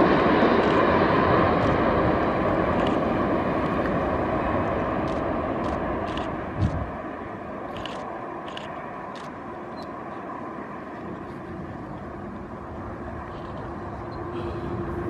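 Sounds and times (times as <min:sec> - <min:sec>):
distant airliner engine roar: 0:00.0 - 0:15.0.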